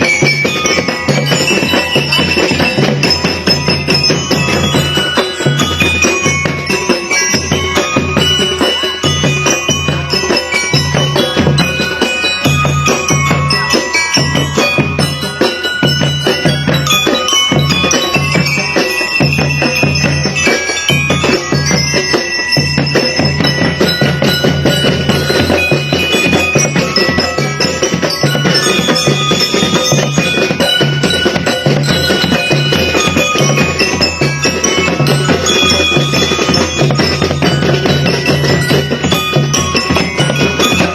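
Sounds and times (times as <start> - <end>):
chiming bells: 0.0 - 40.9
mallet percussion notes: 0.0 - 40.9.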